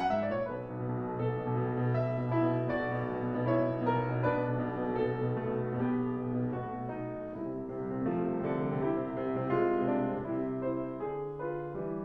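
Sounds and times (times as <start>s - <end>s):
solo grand piano playing: 0.0s - 12.0s.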